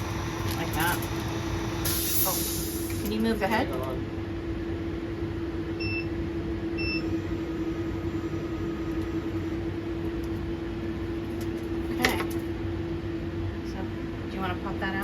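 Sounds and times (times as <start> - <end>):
laser cutter fans humming: 0.0 - 15.0.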